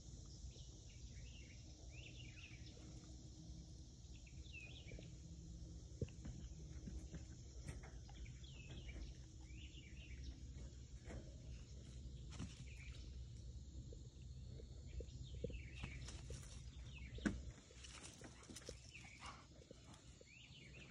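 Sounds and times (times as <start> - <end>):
small birds chirping: 0.0 - 20.9
steady low rumble: 0.0 - 20.9.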